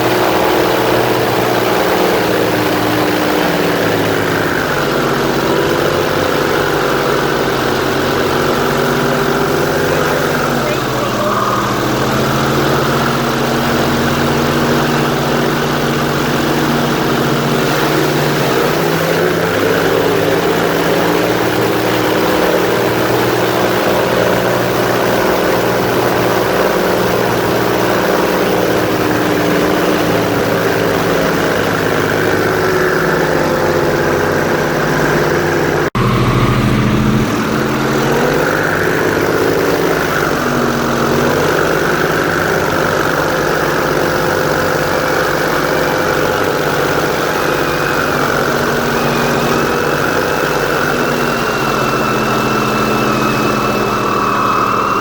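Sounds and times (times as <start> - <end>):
airboat engine and propeller: 0.0 - 55.0.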